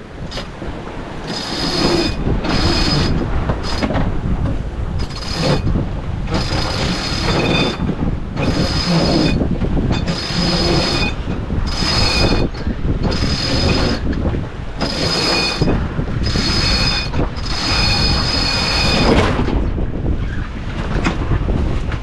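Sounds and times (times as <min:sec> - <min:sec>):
wind and sea rumble: 0:00.0 - 0:22.0
winch pawls whirring: 0:00.1 - 0:04.1, 0:05.0 - 0:14.2, 0:14.8 - 0:19.4.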